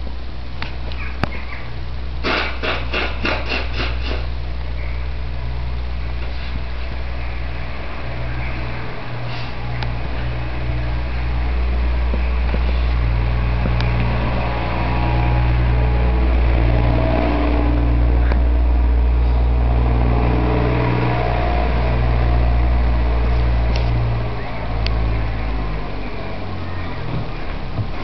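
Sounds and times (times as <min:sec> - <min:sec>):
low rumbling hum: 0:00.0 - 0:28.0.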